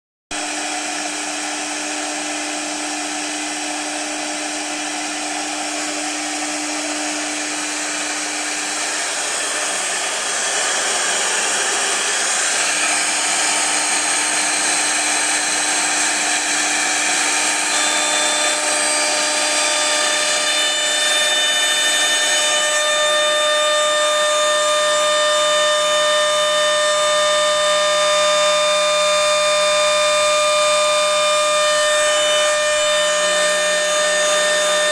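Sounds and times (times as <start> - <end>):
router spindle whine: 0.3 - 34.9.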